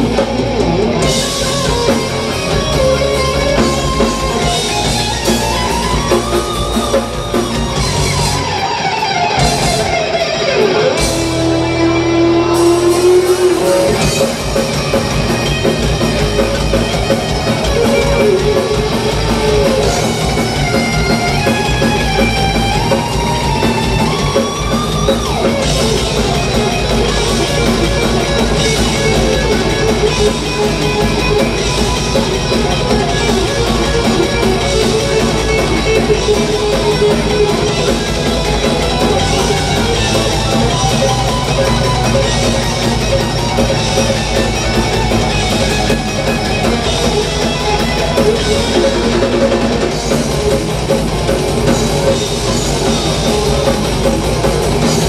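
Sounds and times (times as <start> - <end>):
heavy metal band playing: 0.0 - 55.0
lead electric guitar bending notes: 0.0 - 55.0.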